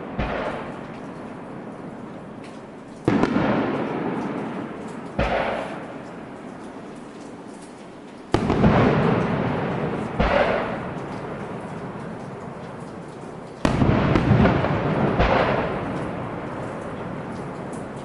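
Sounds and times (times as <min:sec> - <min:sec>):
fireworks shells bursting: 0:00.0 - 0:18.0.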